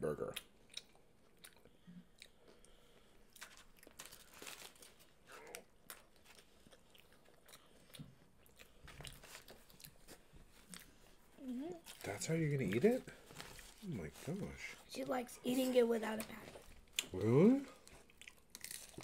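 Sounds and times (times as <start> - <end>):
faint chewing and crunching food: 0.1 - 19.0.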